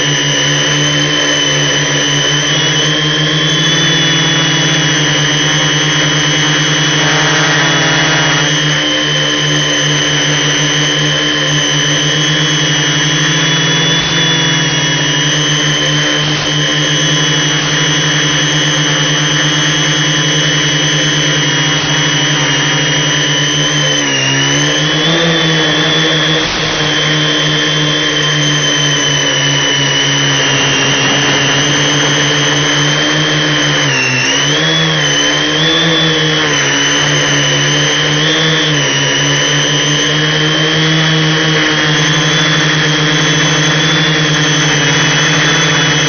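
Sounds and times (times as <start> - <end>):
drone propellers buzzing: 0.0 - 46.0.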